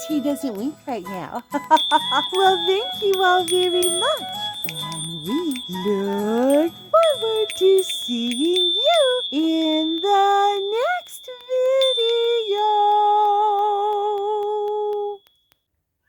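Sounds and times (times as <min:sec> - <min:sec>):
high voice singing: 0:00.0 - 0:15.2.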